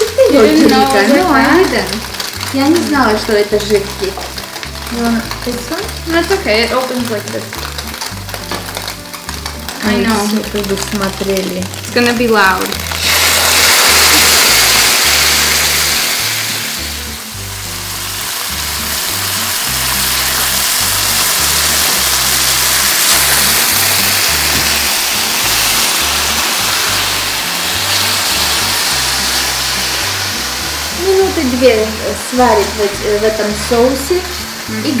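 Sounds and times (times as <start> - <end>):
background music with low bass: 0.0 - 35.0
sauce sizzling in hot pan: 0.0 - 35.0.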